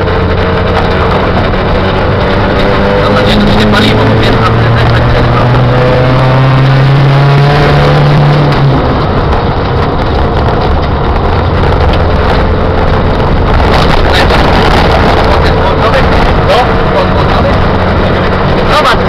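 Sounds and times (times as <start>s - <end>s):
car engine accelerating: 0.0s - 19.0s
road noise: 0.0s - 19.0s.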